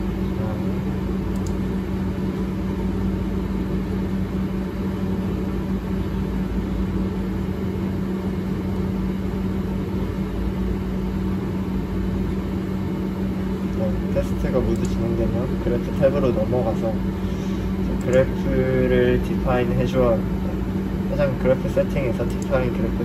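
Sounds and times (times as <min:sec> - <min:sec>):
lab equipment humming: 0:00.0 - 0:23.0.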